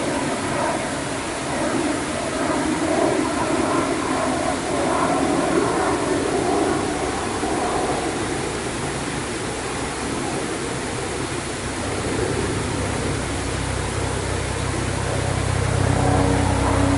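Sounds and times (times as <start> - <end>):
low engine hum: 0.0 - 16.9
running water rushing: 0.0 - 16.9.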